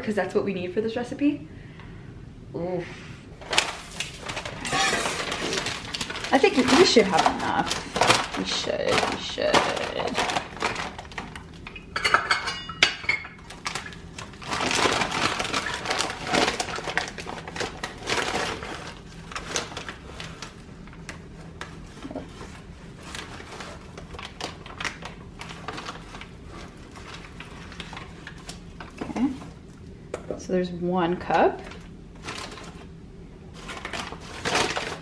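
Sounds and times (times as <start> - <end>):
paper bag crinkling and rustling: 3.4 - 11.9, 13.3 - 29.7, 31.6 - 35.0.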